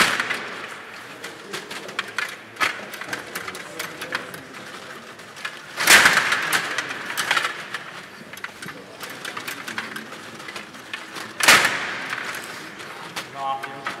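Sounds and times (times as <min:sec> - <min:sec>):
table hockey rods clicking and rattling: 0:00.0 - 0:14.0.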